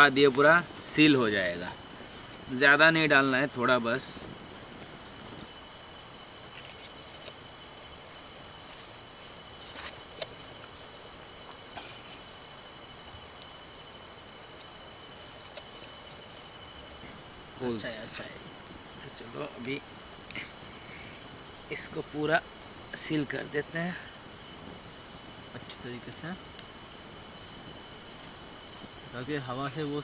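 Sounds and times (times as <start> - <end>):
insect high-pitched trill: 0.0 - 30.0.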